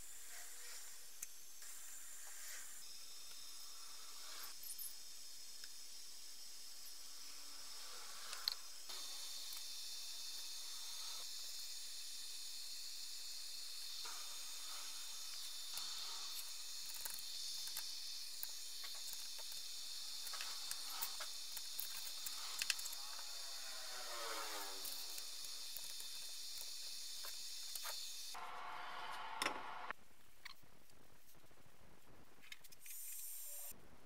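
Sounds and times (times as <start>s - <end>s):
steady high hiss: 0.0s - 30.0s.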